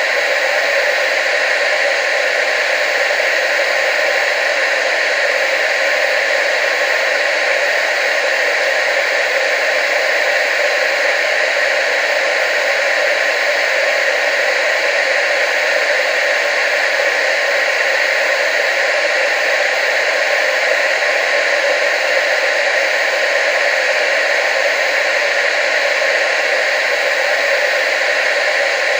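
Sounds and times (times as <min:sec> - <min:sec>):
tv static hiss: 0:00.0 - 0:28.9.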